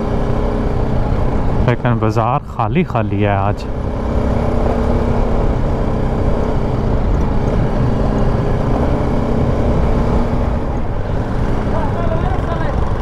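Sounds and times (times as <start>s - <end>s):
constant low rumble: 0.0s - 13.0s
motorcycle engine running: 0.0s - 13.0s.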